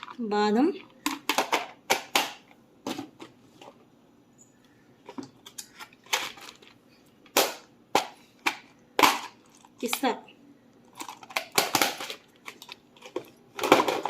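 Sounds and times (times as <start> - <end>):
plastic boxes clicking and knocking: 0.0 - 3.8, 5.0 - 10.1, 10.9 - 14.0.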